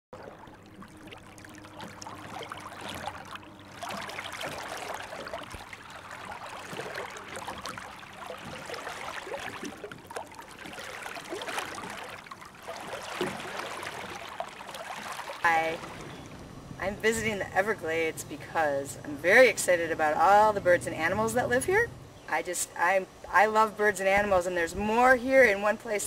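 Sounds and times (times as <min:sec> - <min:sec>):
water trickling and splashing: 0:00.1 - 0:22.3.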